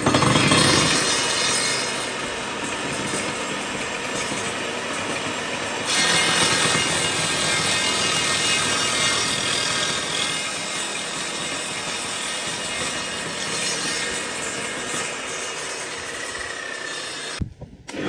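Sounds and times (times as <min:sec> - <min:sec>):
table saw cutting plywood: 0:00.0 - 0:18.0.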